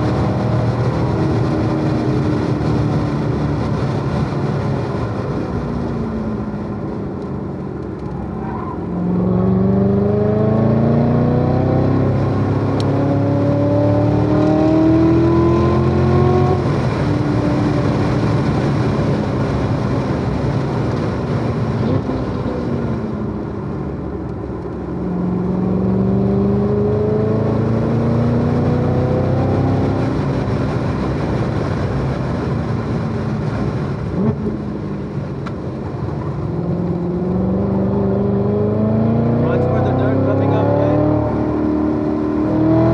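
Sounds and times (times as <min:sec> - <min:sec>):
car engine accelerating hard: 0:00.0 - 0:42.9.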